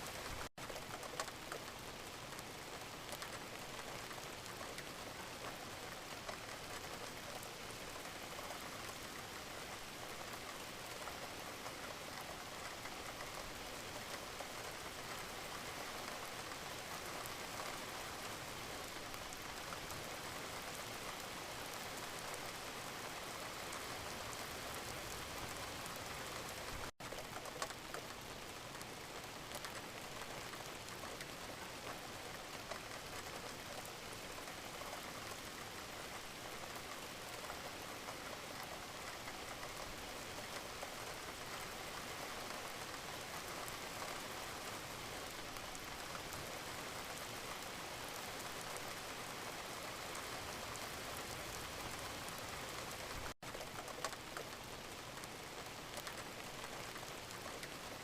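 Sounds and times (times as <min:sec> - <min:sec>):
gentle rain: 0:00.0 - 0:58.0.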